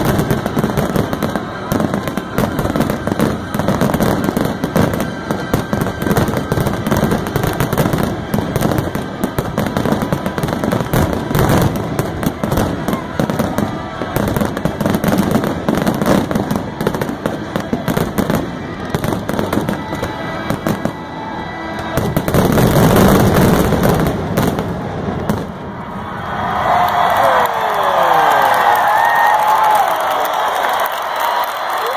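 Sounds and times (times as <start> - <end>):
fireworks bangs and crackling: 0.0 - 26.1.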